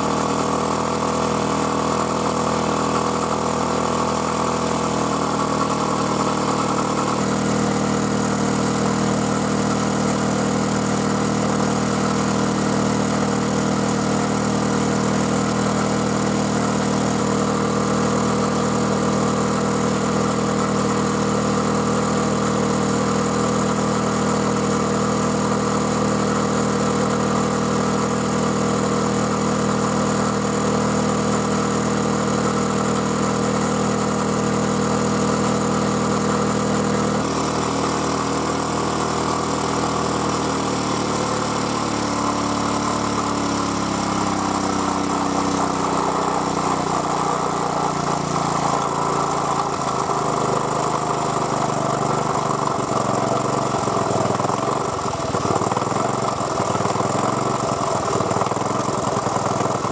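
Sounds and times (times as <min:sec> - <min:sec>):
generator engine running: 0:00.0 - 0:59.9.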